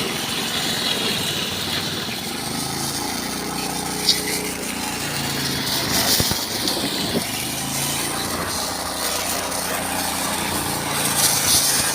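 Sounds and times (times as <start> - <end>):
excavator engine running: 0.0 - 11.9.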